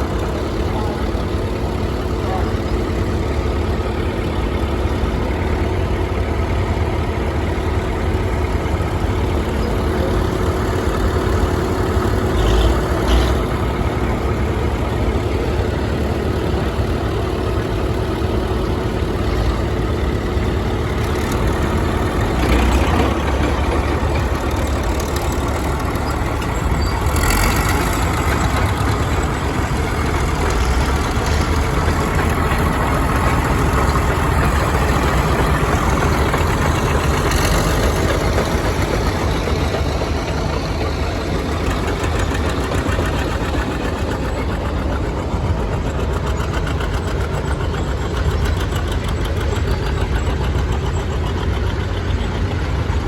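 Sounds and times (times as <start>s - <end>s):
heavy construction machine engines: 0.0s - 53.0s.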